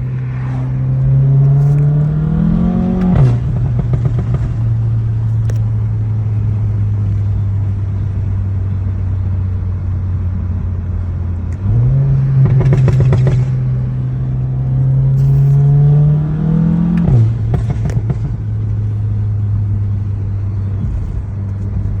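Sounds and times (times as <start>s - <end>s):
car engine idling and revving: 0.0s - 22.0s
exhaust crackle: 0.0s - 22.0s.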